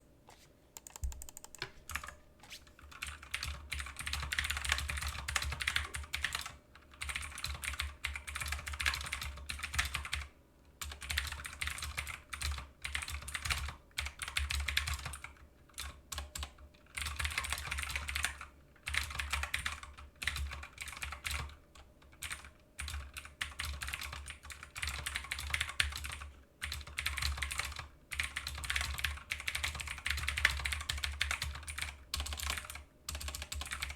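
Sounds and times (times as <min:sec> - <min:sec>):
clicky keyboard typing: 0:00.8 - 0:33.9.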